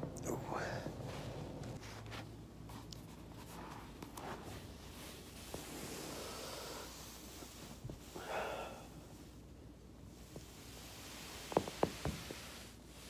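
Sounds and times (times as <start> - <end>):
soft breathing: 0.3 - 13.0
body rustling on foam roller: 0.9 - 13.0.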